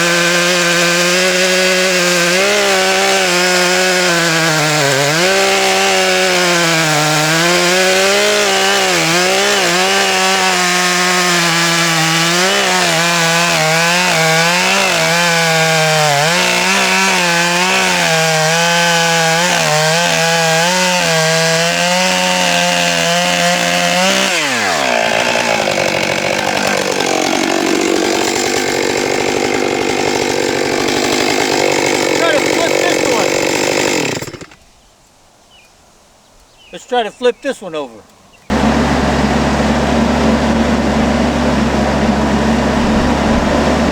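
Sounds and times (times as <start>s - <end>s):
chainsaw cutting log: 0.0s - 34.6s, 38.5s - 43.9s.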